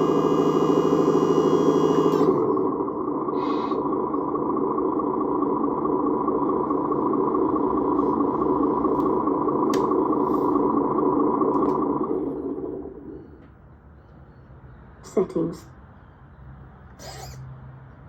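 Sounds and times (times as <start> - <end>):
simulated diesel engine sound: 0.0 - 18.0.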